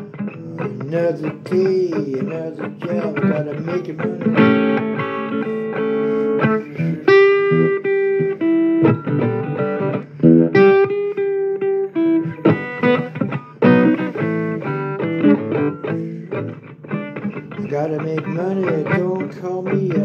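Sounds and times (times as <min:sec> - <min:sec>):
blues guitar playing: 0:00.0 - 0:20.0.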